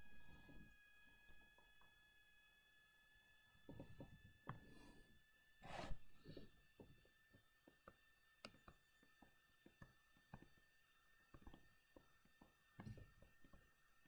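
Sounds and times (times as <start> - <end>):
faint electronic whine: 0.0 - 14.0.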